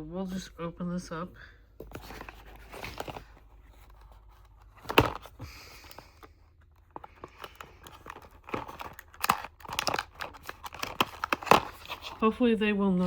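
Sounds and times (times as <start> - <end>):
packaging rustling and scraping: 1.8 - 12.3.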